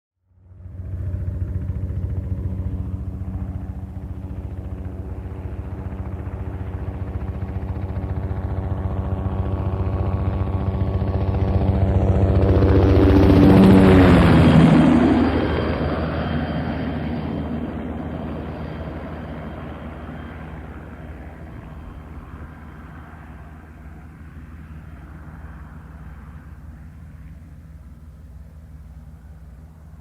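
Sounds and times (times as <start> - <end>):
helicopter engine tone: 0.4 - 30.0
helicopter rotor chop: 0.5 - 30.0.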